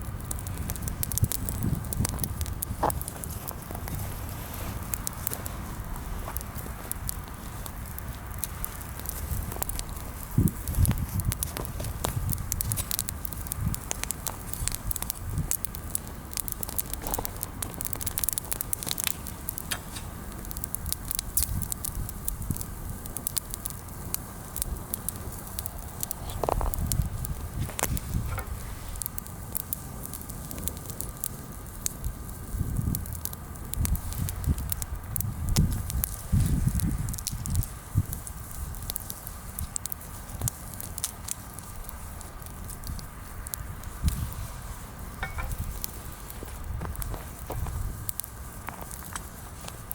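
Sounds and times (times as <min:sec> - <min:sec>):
bonfire crackling and popping: 0:00.0 - 0:49.9.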